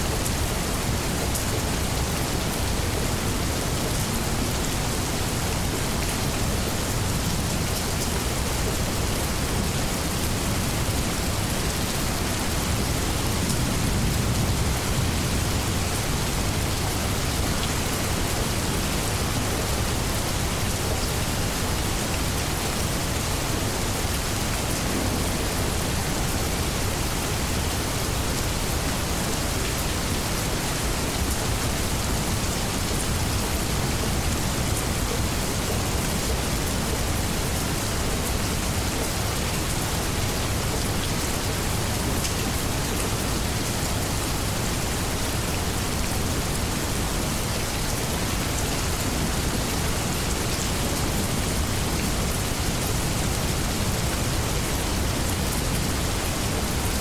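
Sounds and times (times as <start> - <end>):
heavy rain on leaves: 0.0 - 57.0.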